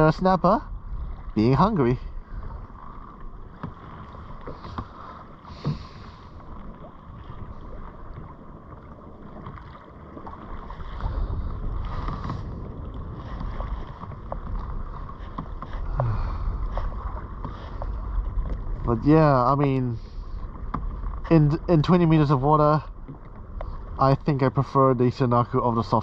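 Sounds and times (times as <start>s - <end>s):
water lapping against a hull: 0.0s - 26.0s
wind buffeting microphone: 0.0s - 26.0s.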